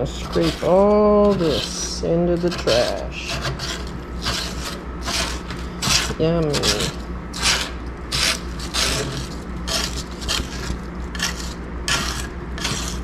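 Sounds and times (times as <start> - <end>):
scraping sludge from metal pan: 0.0 - 13.0.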